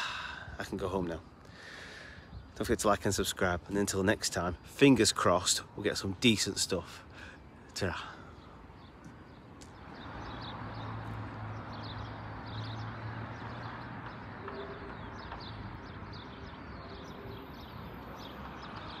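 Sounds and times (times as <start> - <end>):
distant traffic: 0.0 - 19.0
small birds chirping: 0.0 - 19.0.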